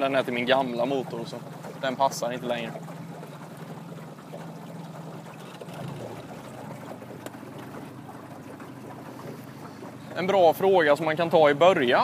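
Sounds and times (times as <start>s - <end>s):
outboard motor running slowly: 0.0s - 12.0s.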